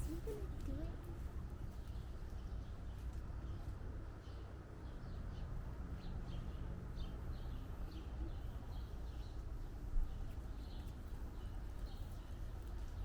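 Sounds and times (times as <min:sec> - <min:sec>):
small birds chirping: 0:01.7 - 0:13.0.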